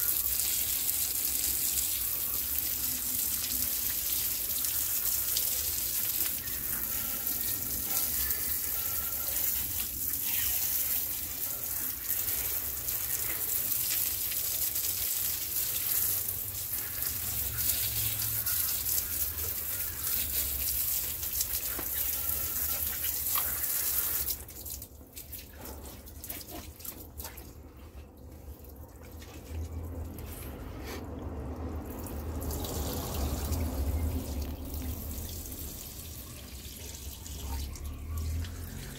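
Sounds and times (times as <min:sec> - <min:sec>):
hose water spraying and splashing: 0:00.0 - 0:28.6, 0:31.9 - 0:38.9.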